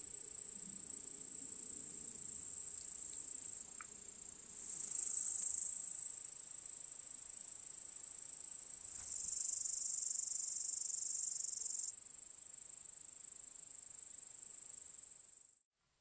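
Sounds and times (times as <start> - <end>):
insects chirring: 0.0 - 15.6.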